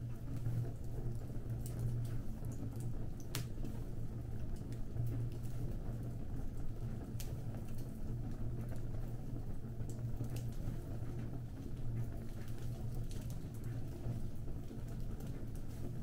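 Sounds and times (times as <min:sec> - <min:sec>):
low rumble of fire: 0:00.0 - 0:16.0
fire crackling and popping: 0:00.1 - 0:16.0.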